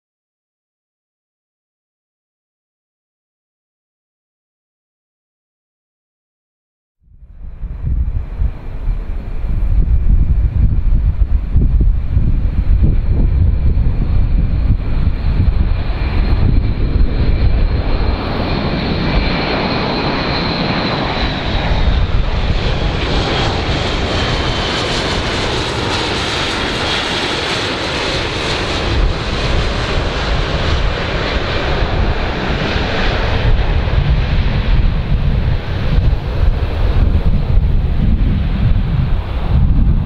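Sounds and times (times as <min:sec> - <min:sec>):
turboprop aircraft droning past: 0:07.0 - 0:40.0
wind rumble on microphone: 0:07.0 - 0:40.0.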